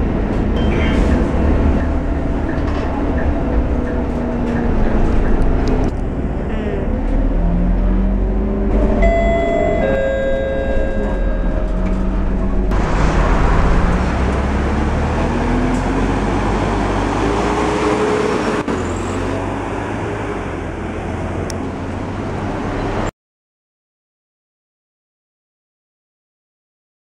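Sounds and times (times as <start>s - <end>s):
bus diesel engine: 0.0s - 23.1s.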